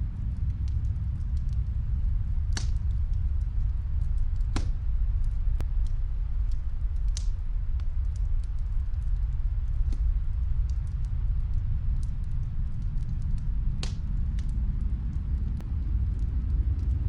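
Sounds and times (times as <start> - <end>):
loud fire pops: 0.0 - 11.2, 11.9 - 17.0
snowstorm wind rumble: 0.0 - 17.0
wood fire crackling: 0.0 - 17.0.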